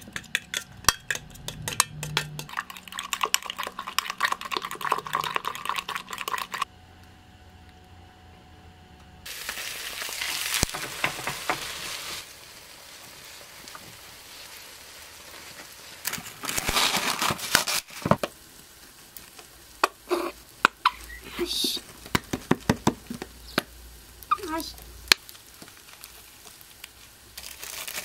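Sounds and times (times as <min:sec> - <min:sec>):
egg mixture sizzling in pan: 0:00.0 - 0:06.7, 0:09.2 - 0:28.0.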